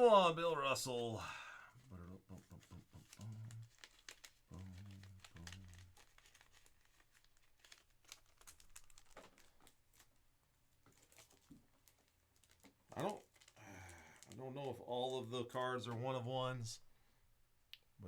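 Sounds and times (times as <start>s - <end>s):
plastic sleeves crinkling: 0.5s - 16.1s.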